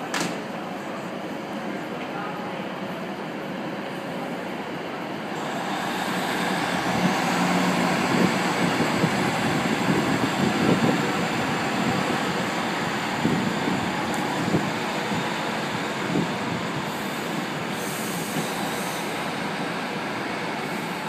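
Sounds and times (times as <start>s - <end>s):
train diesel engines running: 0.0s - 21.0s.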